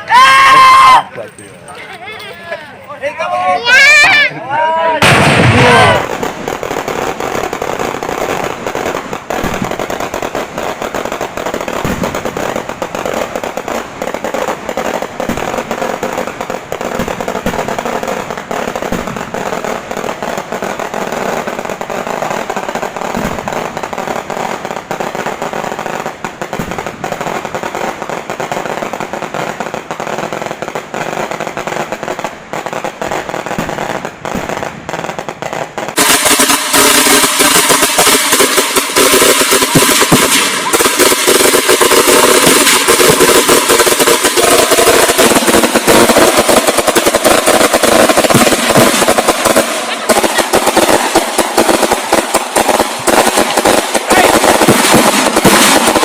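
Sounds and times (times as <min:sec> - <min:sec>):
firecrackers crackling: 0:00.0 - 0:56.0.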